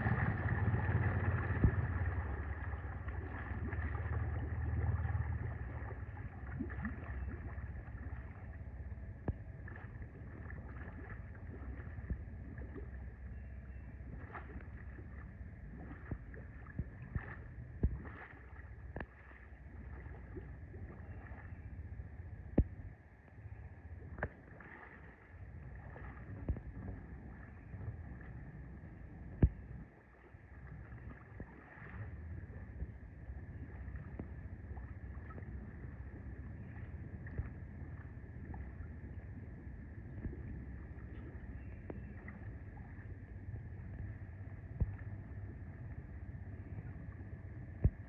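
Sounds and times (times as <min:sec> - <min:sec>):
vehicle engine rumble: 0:00.0 - 0:48.0
water churning: 0:00.0 - 0:48.0.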